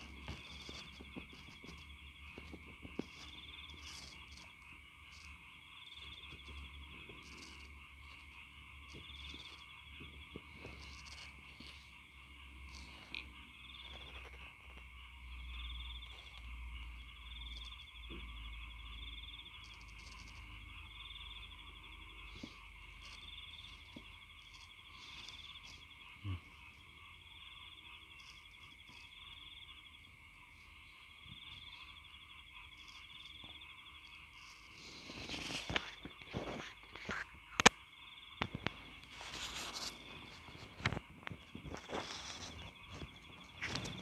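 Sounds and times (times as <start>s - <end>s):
frog trill: 0.0s - 44.0s
insects chirring: 0.0s - 44.0s.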